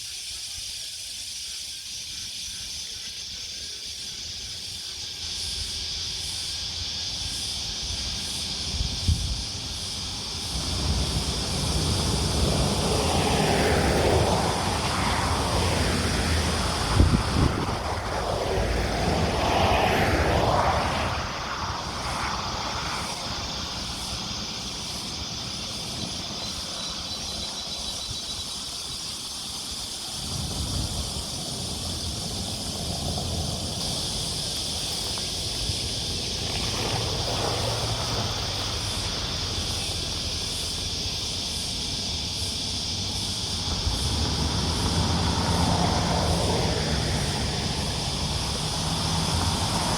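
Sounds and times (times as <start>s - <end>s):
vehicles passing by: 3.9s - 49.9s.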